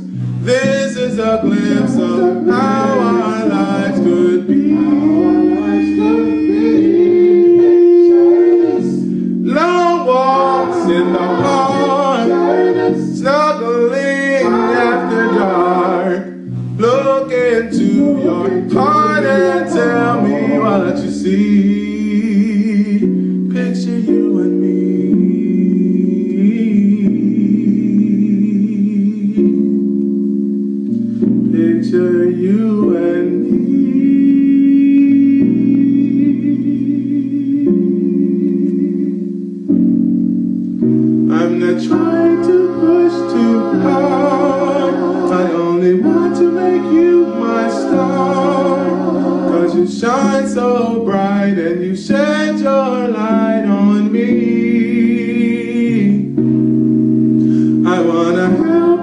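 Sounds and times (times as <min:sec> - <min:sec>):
man singing soul ballad: 0:00.0 - 0:29.6, 0:31.5 - 0:39.4, 0:41.3 - 0:56.4, 0:57.5 - 0:59.0
backing track chords: 0:00.0 - 0:59.0.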